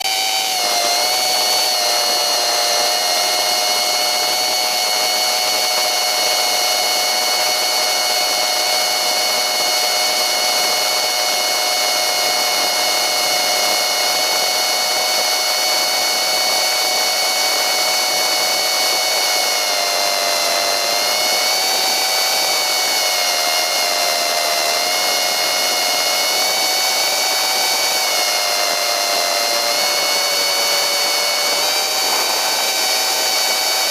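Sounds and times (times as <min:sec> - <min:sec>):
drone propellers whining: 0:00.0 - 0:33.9.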